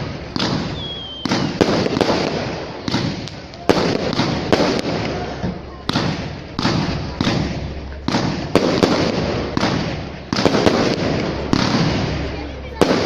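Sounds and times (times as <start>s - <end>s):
firework shell bursts: 0.0s - 13.0s
rumbling echo: 0.0s - 13.0s.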